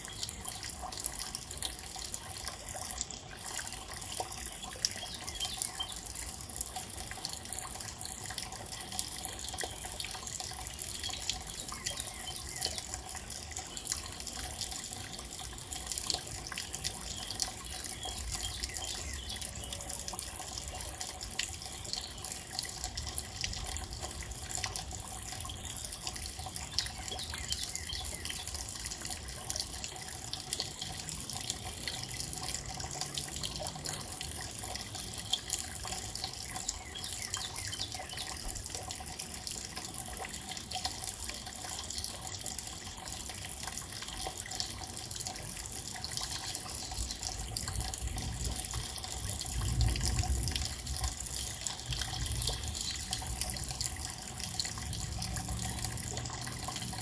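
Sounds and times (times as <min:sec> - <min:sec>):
steady rain: 0:04.6 - 0:57.0.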